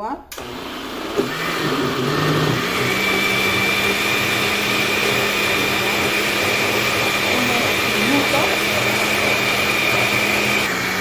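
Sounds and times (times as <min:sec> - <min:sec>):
blender motor running: 0:00.3 - 0:11.0.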